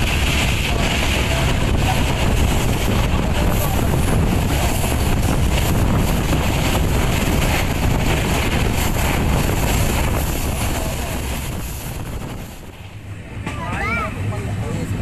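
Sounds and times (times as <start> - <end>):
train rumbling on rails: 0.0 - 15.0
wind rushing over microphone: 0.0 - 15.0.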